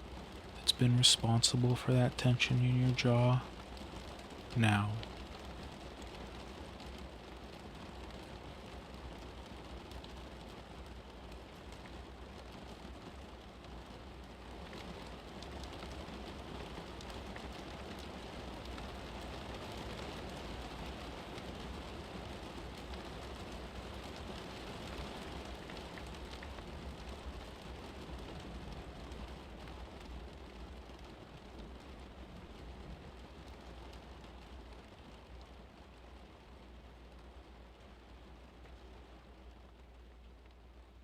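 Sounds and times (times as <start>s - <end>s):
rain hissing and pattering: 0.0s - 41.0s.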